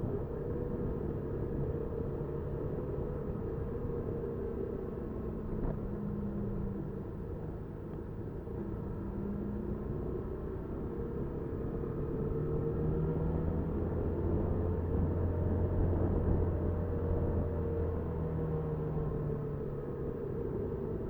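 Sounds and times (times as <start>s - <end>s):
road rumble: 0.0s - 21.0s
wind: 0.0s - 21.0s.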